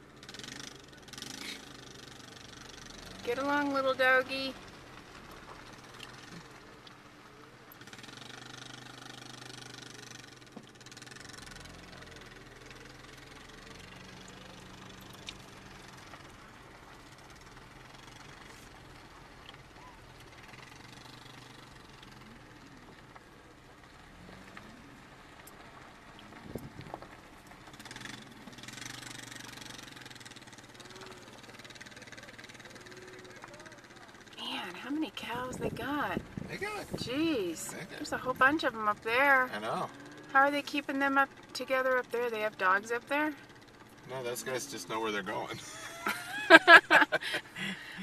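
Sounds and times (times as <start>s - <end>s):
vehicle engine running slowly: 0.0s - 48.0s.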